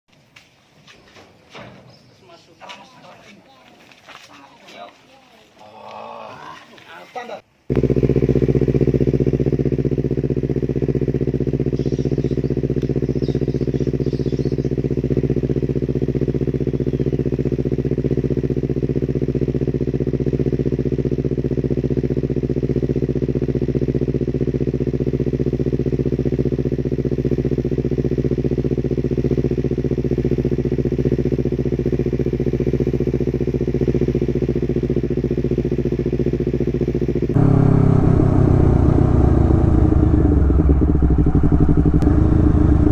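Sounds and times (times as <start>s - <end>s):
motorcycle engine idling: 7.7s - 42.9s.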